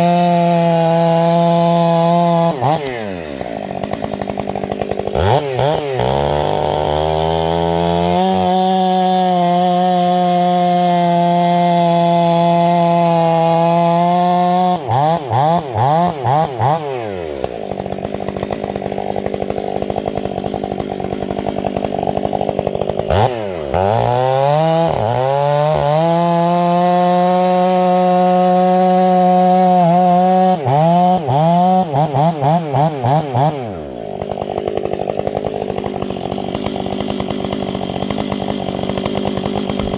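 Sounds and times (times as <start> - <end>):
chainsaw cutting firewood: 0.0 - 39.9
chainsaw throttle blips: 0.0 - 39.9.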